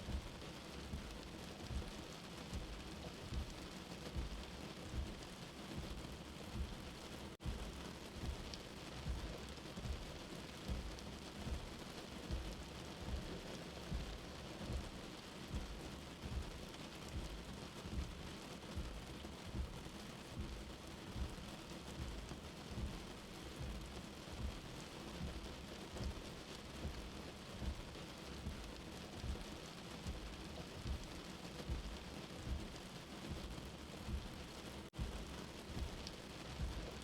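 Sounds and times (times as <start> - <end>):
low heartbeat thump: 0.0 - 37.0
rain hiss: 0.0 - 37.0.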